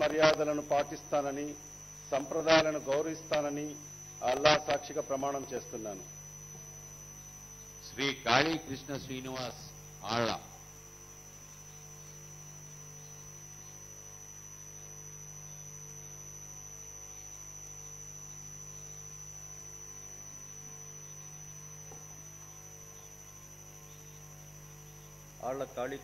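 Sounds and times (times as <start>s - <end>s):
electrical mains hum with whine: 0.0s - 26.0s.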